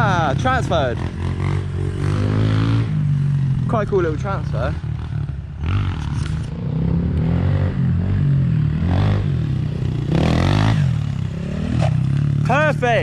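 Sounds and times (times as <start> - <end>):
pit bike engine revving: 0.0 - 13.0.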